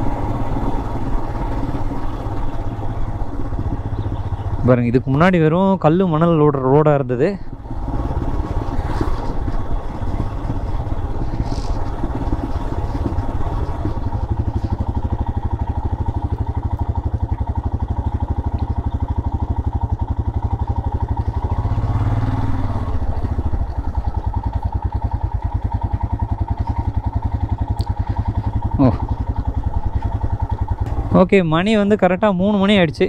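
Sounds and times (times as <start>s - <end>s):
motorcycle engine braking: 0.0s - 33.0s.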